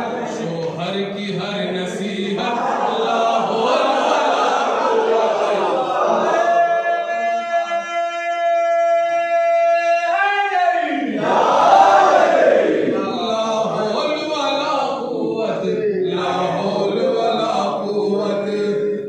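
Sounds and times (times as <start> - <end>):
voices singing together: 0.0 - 7.9, 10.9 - 19.0.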